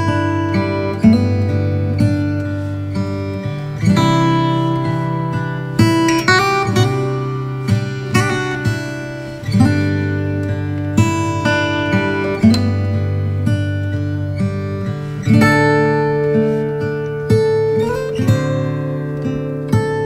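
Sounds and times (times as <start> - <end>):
acoustic guitar strummed chords: 0.0 - 20.0.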